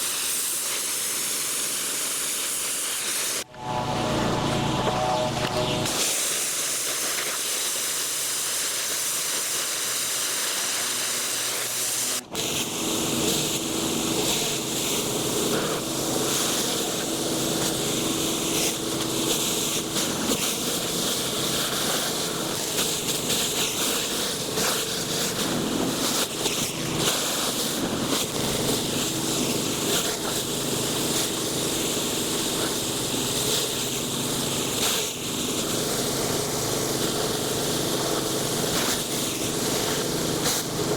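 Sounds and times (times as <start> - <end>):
high-pressure water spray hissing: 0.0 - 5.2, 5.8 - 40.9
pressure washer engine humming: 0.0 - 40.9.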